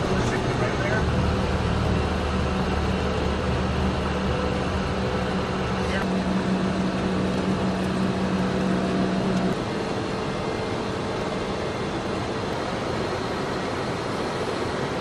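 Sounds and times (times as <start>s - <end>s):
airflow and jet engine noise: 0.0s - 15.0s.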